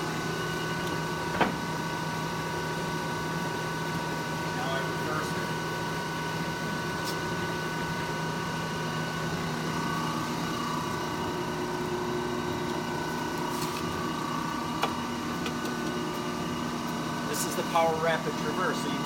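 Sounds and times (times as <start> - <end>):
lathe hum with gear whine: 0.0 - 19.0.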